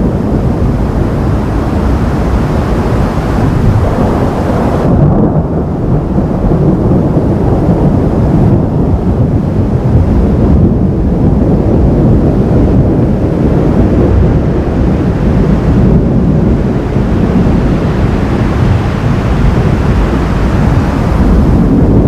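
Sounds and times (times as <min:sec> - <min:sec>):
rolling thunder rumble: 0:00.0 - 0:22.0
wind buffeting microphone: 0:00.0 - 0:22.0.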